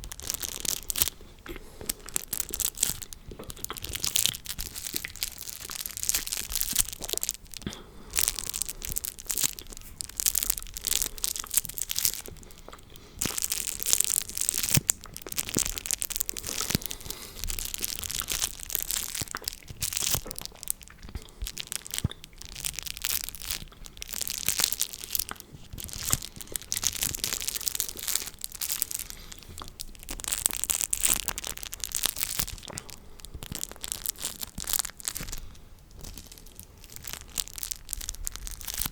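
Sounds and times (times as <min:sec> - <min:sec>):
close crackling and crinkling: 0:00.0 - 0:38.9.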